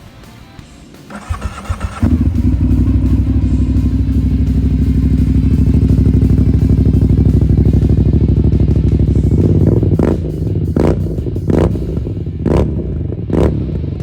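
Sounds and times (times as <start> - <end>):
motorcycle engine idling: 1.1 - 14.0.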